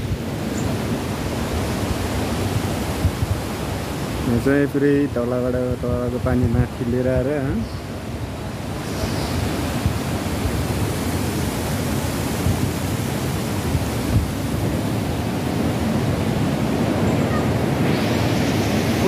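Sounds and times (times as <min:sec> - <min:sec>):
wind rumble on microphone: 0:00.0 - 0:04.6, 0:05.5 - 0:19.0
water rushing: 0:00.0 - 0:19.0.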